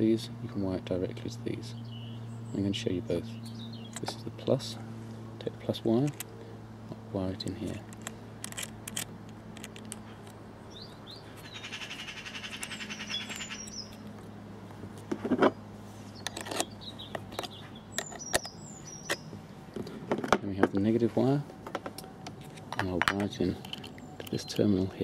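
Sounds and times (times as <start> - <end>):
faint steady hum: 0.0 - 25.0
small birds chirping: 0.8 - 4.8, 5.5 - 20.0, 22.8 - 25.0.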